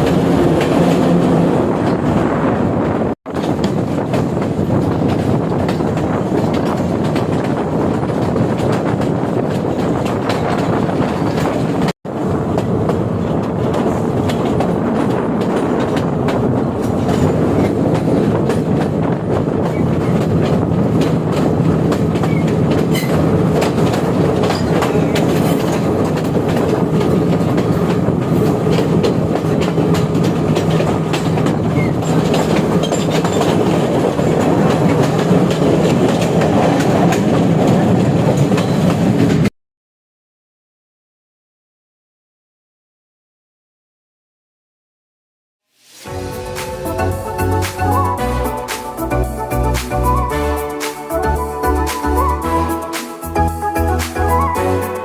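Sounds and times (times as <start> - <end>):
train rumble: 0.0 - 39.5, 45.7 - 55.0
train wheels clacking on rails: 0.0 - 39.5, 46.1 - 55.0.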